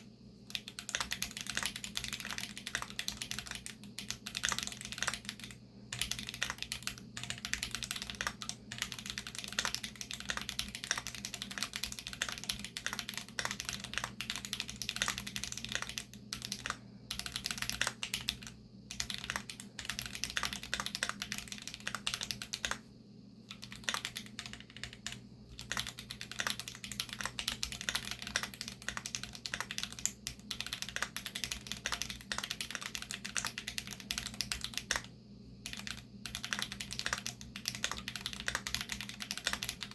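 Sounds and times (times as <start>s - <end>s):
mechanical keyboard typing: 0.0s - 22.8s, 23.5s - 39.9s
steady low hum: 0.0s - 39.9s.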